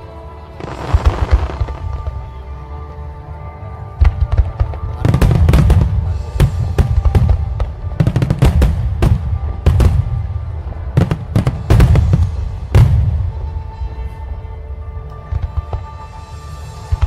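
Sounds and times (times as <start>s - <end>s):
music: 0.0s - 17.0s
fireworks bangs and crackles: 0.5s - 2.5s, 3.8s - 13.8s, 15.2s - 17.0s.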